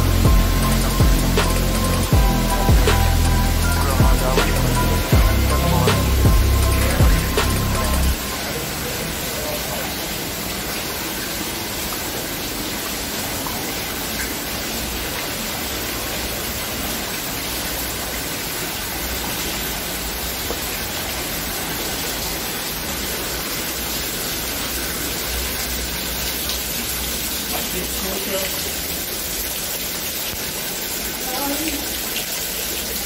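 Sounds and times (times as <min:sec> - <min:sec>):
stream running over stones: 0:00.0 - 0:33.0
waterfall spilling down rock: 0:00.0 - 0:33.0.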